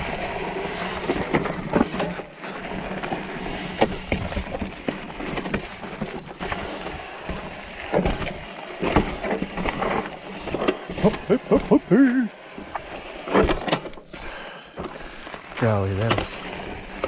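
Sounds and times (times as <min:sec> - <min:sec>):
bike knocking and rattling: 0:00.0 - 0:17.0
tyres rumbling on dirt: 0:00.0 - 0:17.0.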